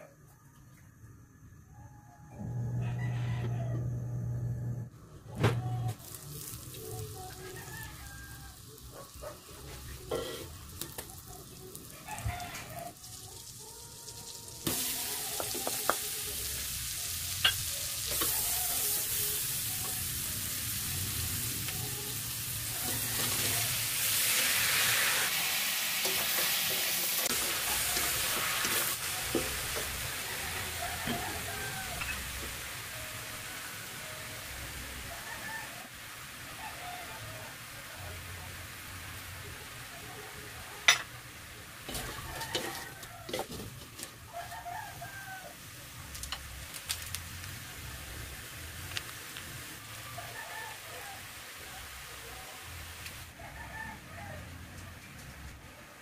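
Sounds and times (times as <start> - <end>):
food sizzling in a wok: 6.0 - 53.4.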